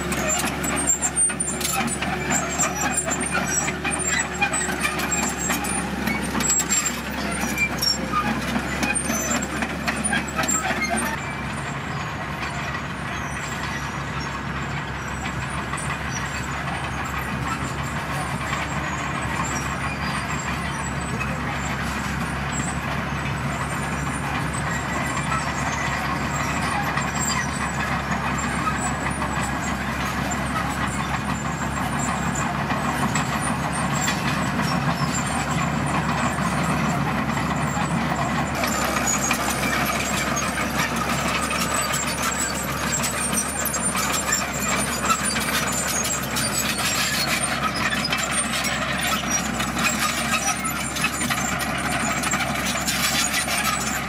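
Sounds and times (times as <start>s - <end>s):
bulldozer diesel engine running: 0.0s - 54.0s
steel tracks clattering: 0.0s - 54.0s.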